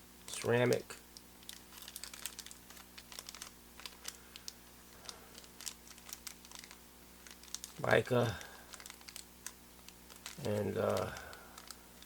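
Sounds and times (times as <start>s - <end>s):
faint clicks of small components: 0.3s - 12.0s
plastic bags crinkling: 1.4s - 12.0s.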